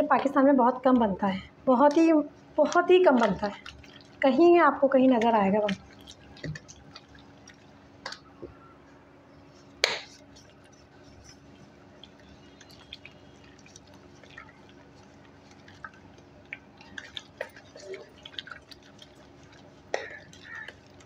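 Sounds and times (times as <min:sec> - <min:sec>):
wet squelches in a bowl: 0:00.0 - 0:21.0.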